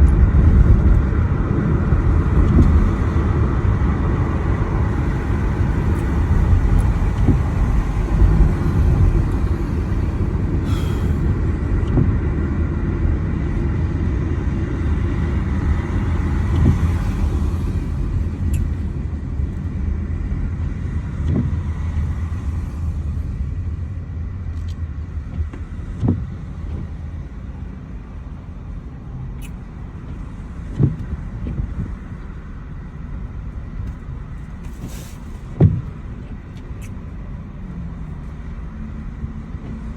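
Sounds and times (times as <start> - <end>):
road vehicle rumble: 0.0 - 39.9.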